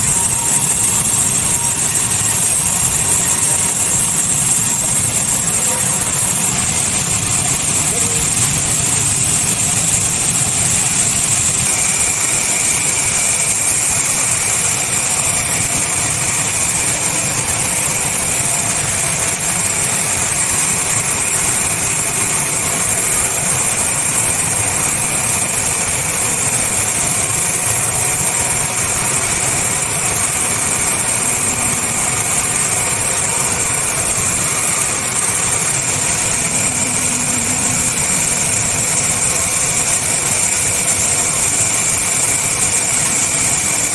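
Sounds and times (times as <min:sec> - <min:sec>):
sawmill machinery drone and hiss: 0:00.0 - 0:43.9.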